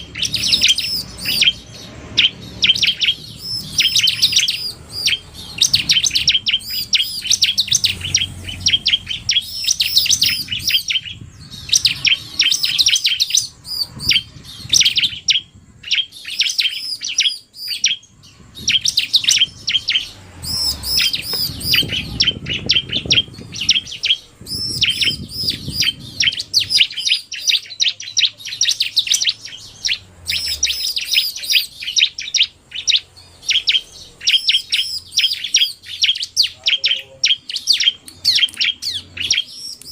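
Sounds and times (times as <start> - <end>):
birds sharp high chirps: 0.0 - 39.9.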